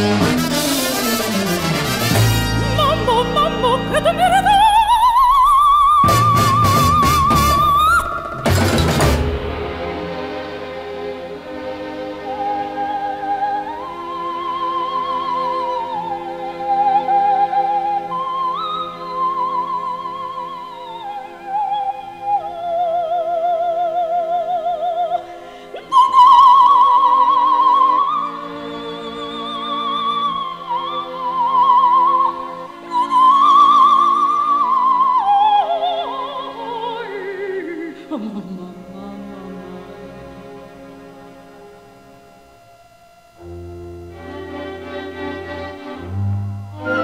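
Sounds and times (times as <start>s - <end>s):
sustained accompanying chords: 0.0s - 33.2s, 35.6s - 47.0s
operatic wordless vocal melody: 1.8s - 41.4s.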